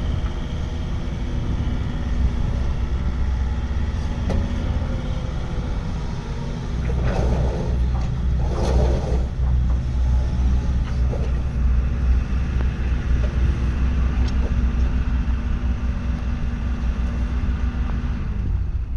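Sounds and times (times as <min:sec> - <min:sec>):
excavator diesel engine rumbling: 0:00.0 - 0:18.9.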